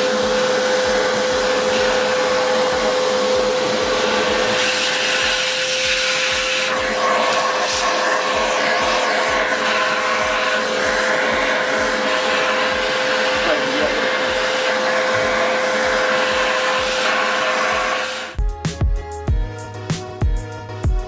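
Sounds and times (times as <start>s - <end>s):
vacuum cleaner running: 0.0s - 18.4s
music: 0.0s - 21.0s.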